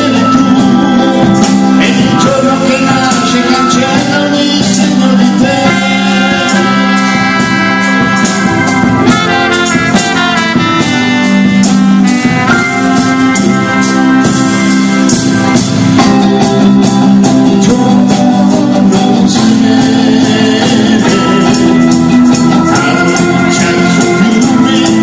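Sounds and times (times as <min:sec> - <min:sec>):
drum kit: 0:00.0 - 0:25.0
electric and acoustic guitars: 0:00.0 - 0:25.0
held lead melody: 0:00.0 - 0:25.0.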